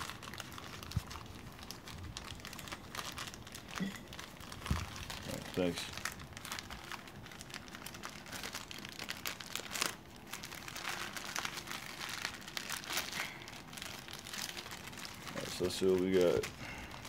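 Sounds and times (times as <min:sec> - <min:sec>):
packaging wrap crackling: 0:00.0 - 0:17.0.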